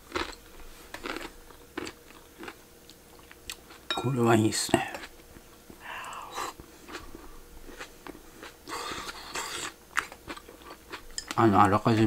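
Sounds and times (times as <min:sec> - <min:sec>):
person chewing food: 0:00.0 - 0:03.9, 0:04.9 - 0:11.4.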